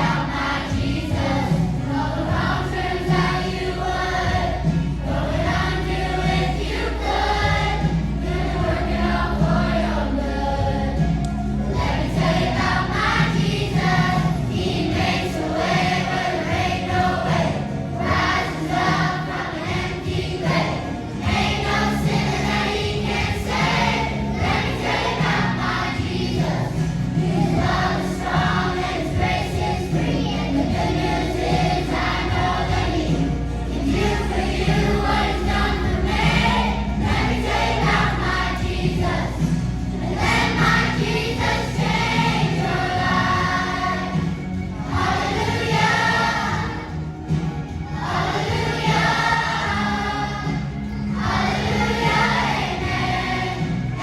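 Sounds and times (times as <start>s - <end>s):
choir singing: 0.0s - 54.0s
instrumental accompaniment with bass: 0.0s - 54.0s.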